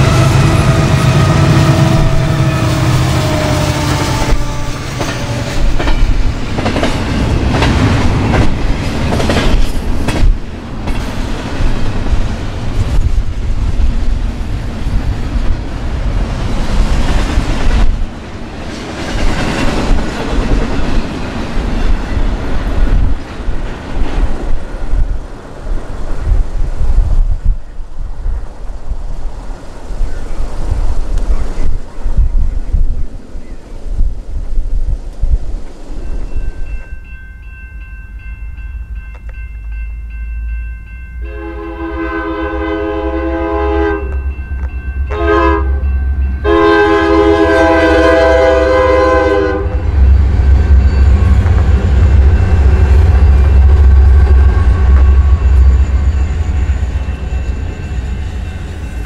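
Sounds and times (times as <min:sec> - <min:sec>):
diesel locomotive engines passing: 0:00.0 - 0:34.6, 0:35.6 - 0:59.0.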